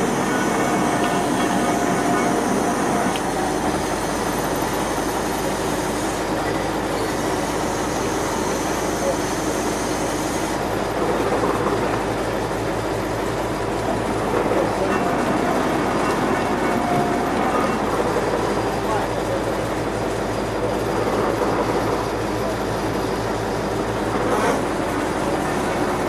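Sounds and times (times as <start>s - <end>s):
crane engine running under load: 0.0s - 26.0s.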